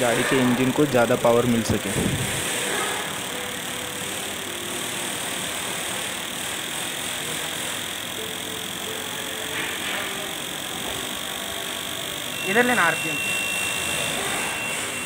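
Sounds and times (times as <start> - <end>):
fuel injectors chattering: 0.0 - 15.0
steady high tone: 0.0 - 15.0.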